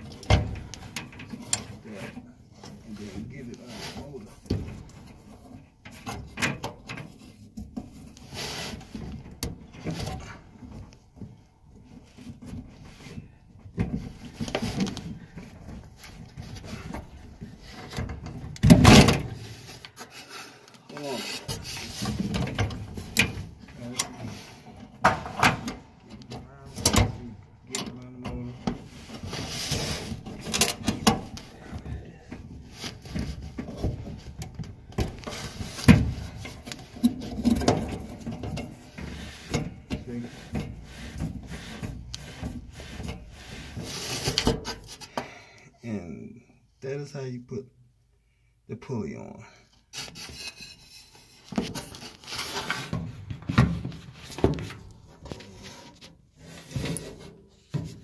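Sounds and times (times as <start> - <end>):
clicks knocks and scraping on metal: 0.0 - 45.2, 49.9 - 58.0.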